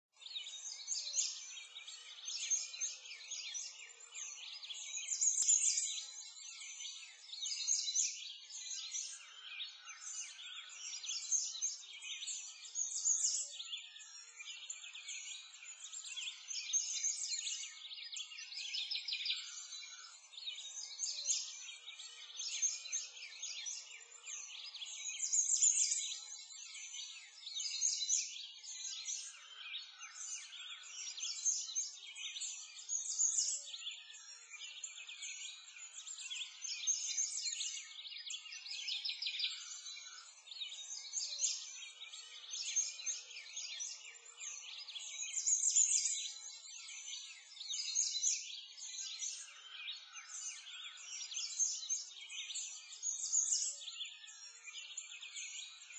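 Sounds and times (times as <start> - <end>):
songbirds chirping and trilling: 0.0 - 55.9.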